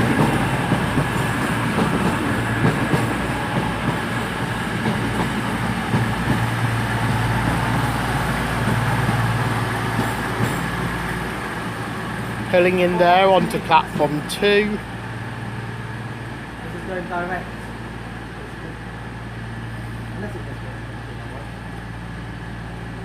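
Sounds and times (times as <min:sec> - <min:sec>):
diesel train engines humming: 0:00.0 - 0:23.0
train rolling noise: 0:00.0 - 0:23.0.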